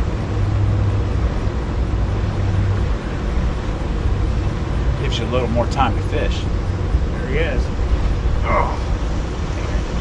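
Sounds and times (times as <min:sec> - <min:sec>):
water churning from turbines: 0:00.0 - 0:10.0.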